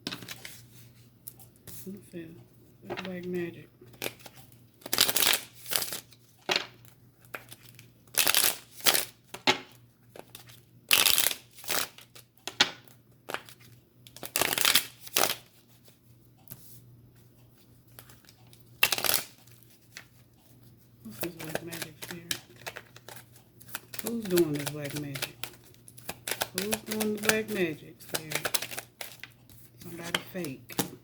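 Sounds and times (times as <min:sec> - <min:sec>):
cards being shuffled: 0:00.0 - 0:00.7, 0:03.9 - 0:16.7, 0:17.9 - 0:20.2, 0:21.1 - 0:31.0.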